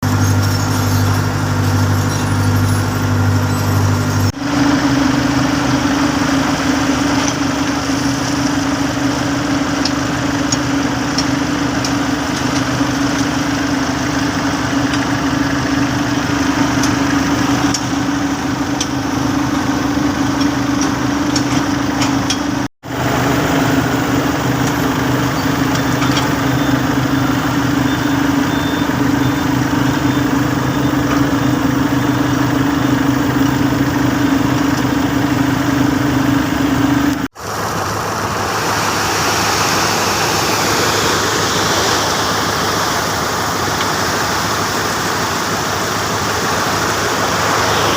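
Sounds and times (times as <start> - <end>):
heavy machinery engine humming: 0.0 - 47.9.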